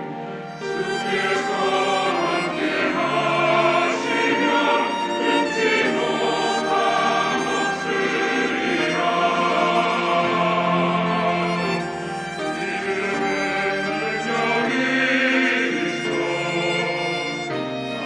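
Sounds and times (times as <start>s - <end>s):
choir singing: 0.0s - 18.0s
orchestral strings: 0.0s - 18.0s.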